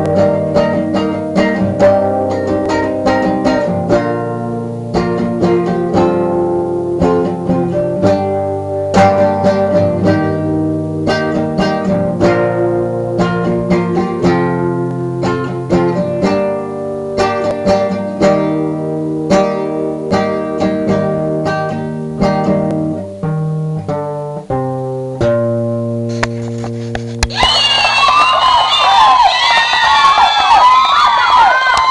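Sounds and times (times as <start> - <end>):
guitar plucking melody over chords: 0.0 - 27.3.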